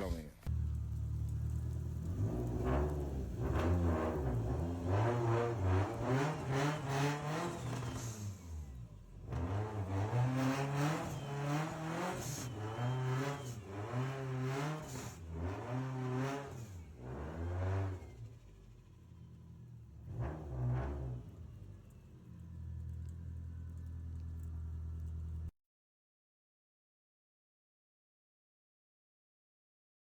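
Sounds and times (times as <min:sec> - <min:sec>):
car engine revving: 0:00.4 - 0:25.5.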